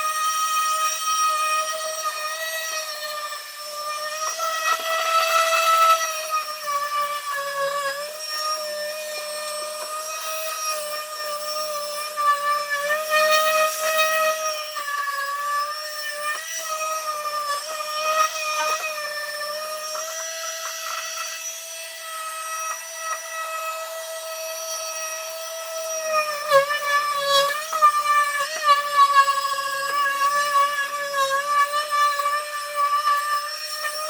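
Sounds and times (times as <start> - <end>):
electric power tool motor whine: 0.0 - 34.0.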